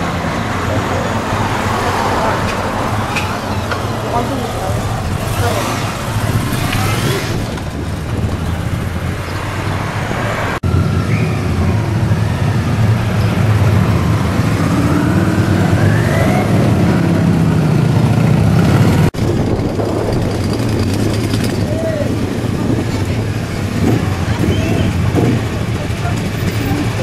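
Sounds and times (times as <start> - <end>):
motorcycles revving past: 0.0 - 27.0.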